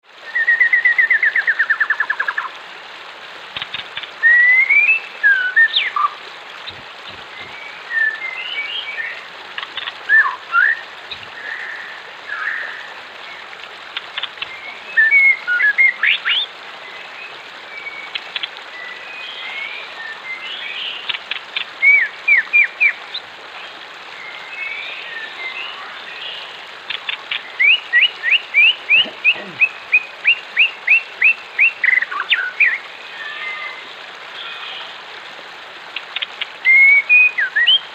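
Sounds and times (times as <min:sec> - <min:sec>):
flowing water rushing: 0:00.0 - 0:37.9
birds singing and calling: 0:03.5 - 0:35.0, 0:35.9 - 0:37.9.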